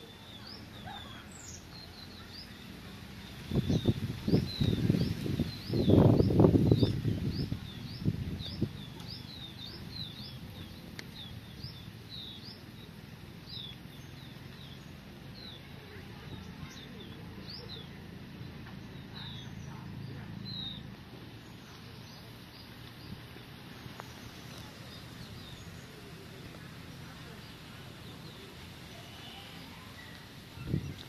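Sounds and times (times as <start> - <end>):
small bird chirping: 0.0 - 31.0
steady low rumble: 0.3 - 29.0.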